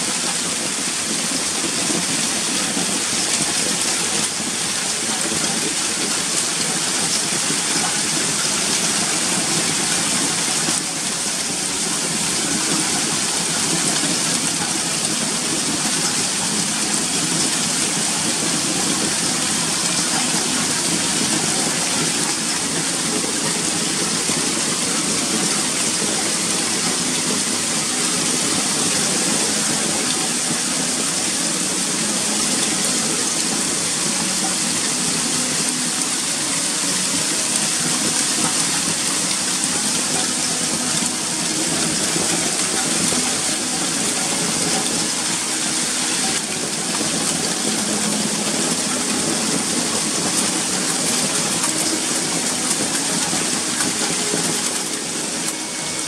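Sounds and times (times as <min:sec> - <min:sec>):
hail and rain pelting roofs: 0:00.0 - 0:56.0.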